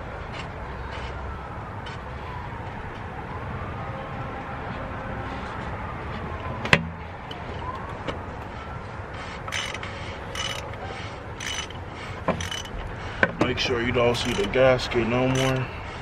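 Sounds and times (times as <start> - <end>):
distant siren wailing: 0.0 - 16.0.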